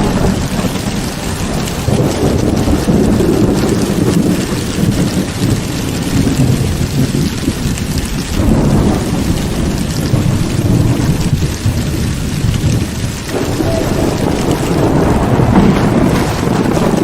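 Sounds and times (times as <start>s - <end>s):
deep rolling thunder: 0.0s - 17.0s
heavy rain pouring: 0.0s - 17.0s.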